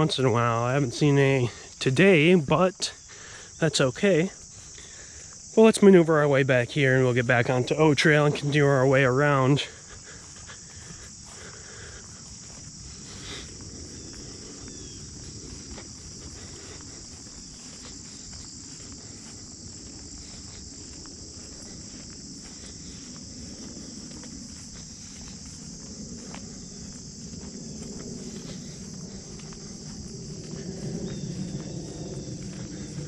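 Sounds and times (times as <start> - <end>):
footsteps on woodland trail: 0.0 - 33.0
insects trilling: 0.0 - 33.0.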